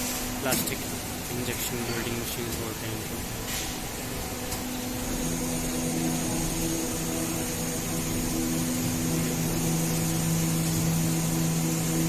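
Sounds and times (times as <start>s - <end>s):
machine hum with low tones: 0.0s - 12.0s.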